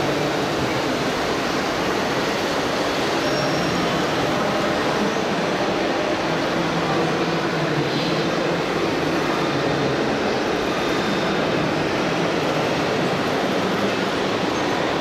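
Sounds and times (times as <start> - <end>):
exhibition hall din: 0.0 - 15.0.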